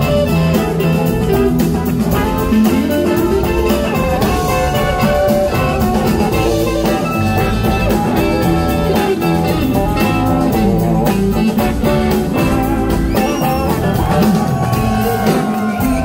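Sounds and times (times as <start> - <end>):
drum kit: 0.0 - 16.0
electric bass: 0.0 - 16.0
electric guitars: 0.0 - 16.0.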